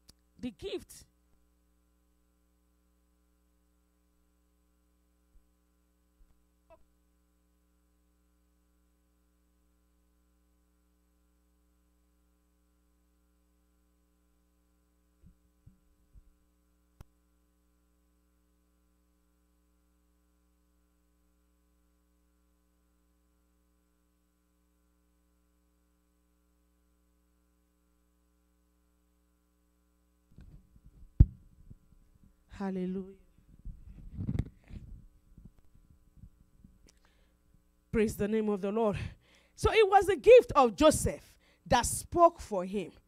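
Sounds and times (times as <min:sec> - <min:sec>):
faint mains hum: 0:00.0 - 0:43.0.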